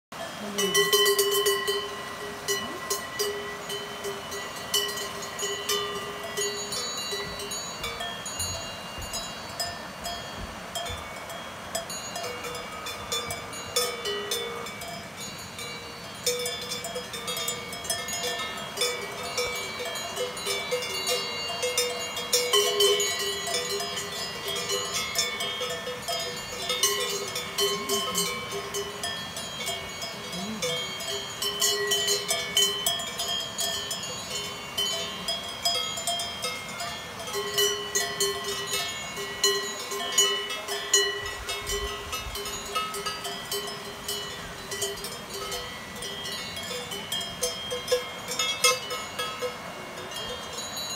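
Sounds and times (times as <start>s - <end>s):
cowbells clanking: 0.2s - 50.9s.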